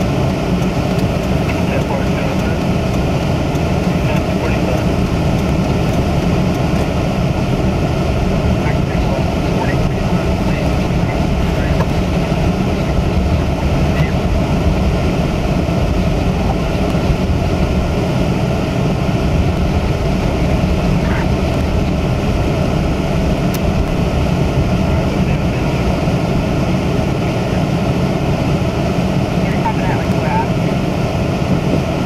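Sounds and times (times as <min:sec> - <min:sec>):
car driving on snowy road: 0:00.0 - 0:32.0.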